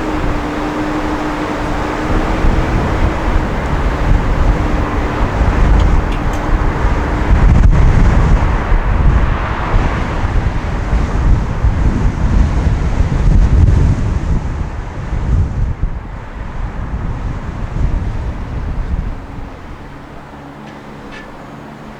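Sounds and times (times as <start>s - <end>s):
road and traffic noise: 0.0s - 21.9s
wind buffeting microphone: 0.0s - 21.9s.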